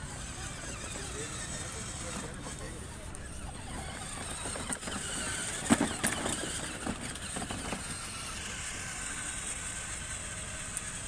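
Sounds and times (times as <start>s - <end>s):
car engine running: 1.1s - 10.8s.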